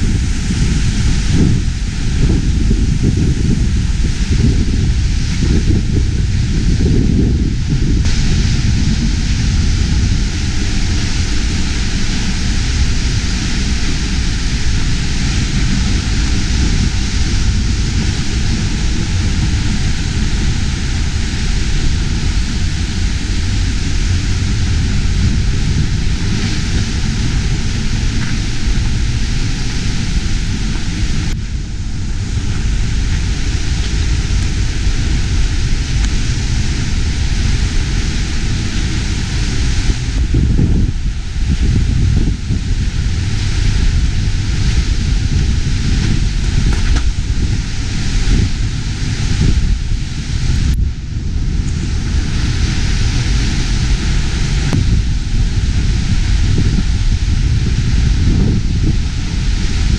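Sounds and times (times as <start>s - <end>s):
waterfall rushing: 0.0s - 50.8s, 51.8s - 59.9s.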